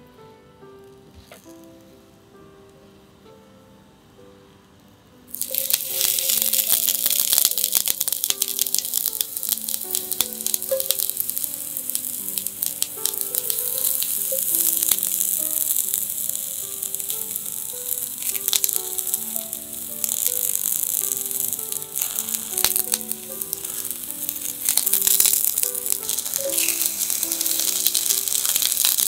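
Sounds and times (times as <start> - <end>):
onion sizzling in hot fat: 5.3 - 29.0.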